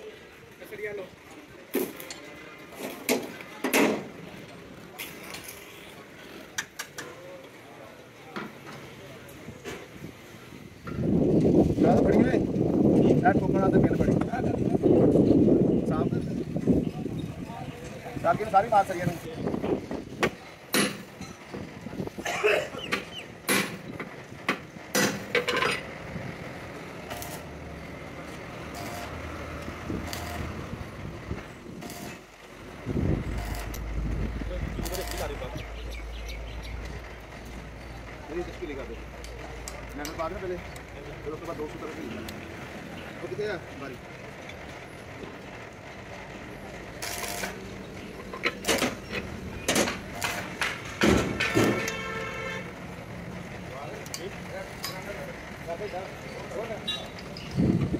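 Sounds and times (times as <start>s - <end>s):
steady background noise: 0.0s - 57.9s.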